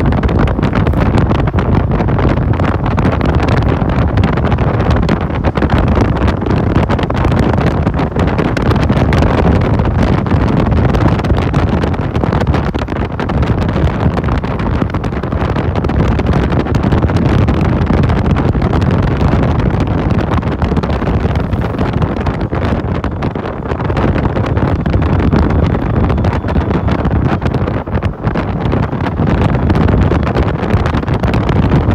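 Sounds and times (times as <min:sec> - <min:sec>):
motorcycle running: 0:00.0 - 0:31.9
wind rushing over microphone: 0:00.0 - 0:31.9.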